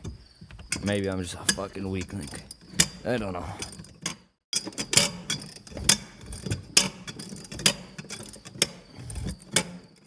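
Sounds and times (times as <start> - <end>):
metallic clanks and clicks: 0.0 - 10.0.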